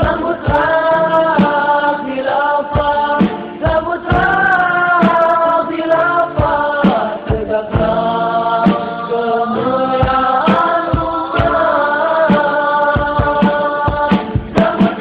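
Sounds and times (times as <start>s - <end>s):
choir singing long sliding notes: 0.0s - 15.0s.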